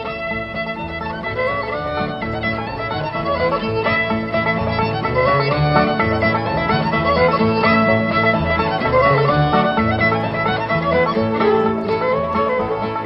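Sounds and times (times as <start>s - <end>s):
acoustic string instrument tune: 0.0s - 13.0s.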